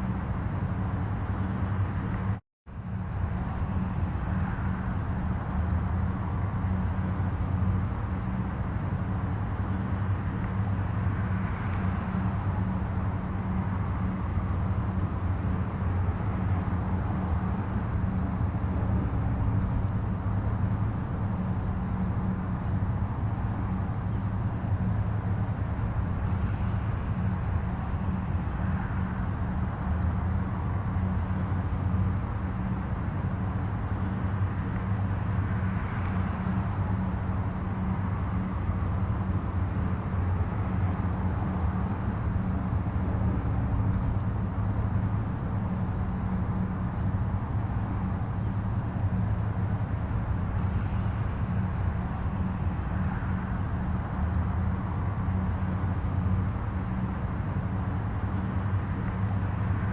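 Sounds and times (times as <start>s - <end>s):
distant highway traffic: 0.0s - 59.9s.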